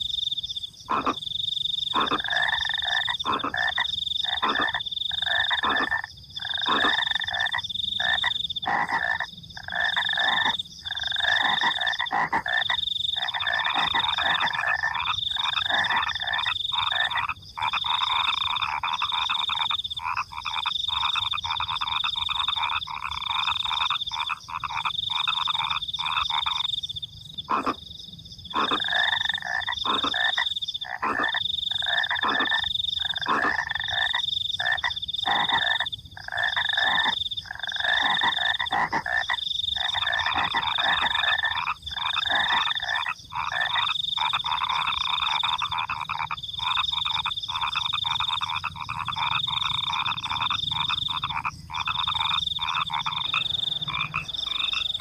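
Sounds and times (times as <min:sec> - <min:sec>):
crickets trilling: 0:00.0 - 0:55.0
frogs croaking: 0:00.0 - 0:55.0.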